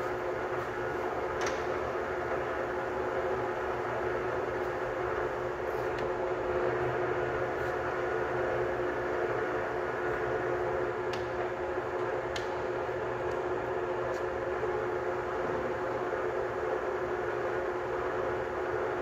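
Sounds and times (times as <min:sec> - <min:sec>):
lathe motor humming: 0:00.0 - 0:19.0.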